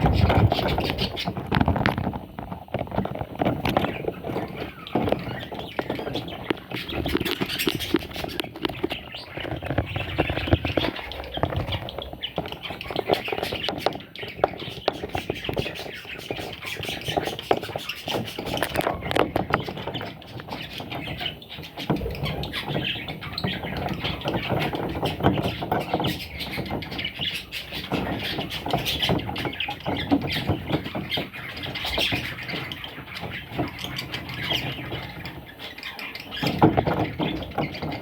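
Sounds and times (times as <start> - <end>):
budgerigar chicks squawking: 0.0 - 38.0.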